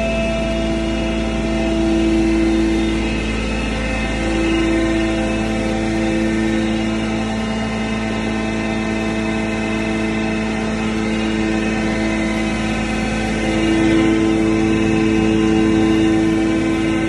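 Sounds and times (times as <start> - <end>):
feed pulveriser humming: 0.0 - 17.0.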